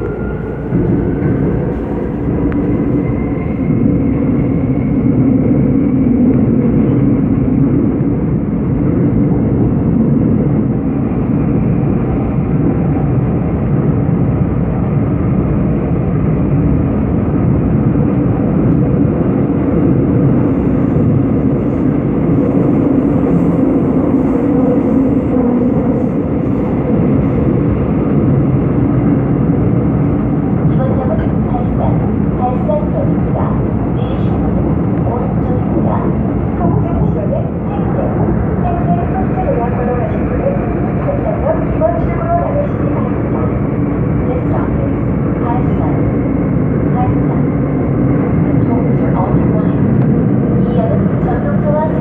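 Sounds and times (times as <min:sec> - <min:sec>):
train rumbling in tunnel: 0:00.0 - 0:52.0.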